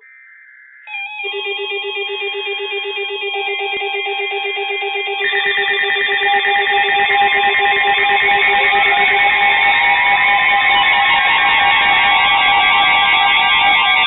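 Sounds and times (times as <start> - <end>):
electronic alarm beeping and warbling: 0.8 - 14.0.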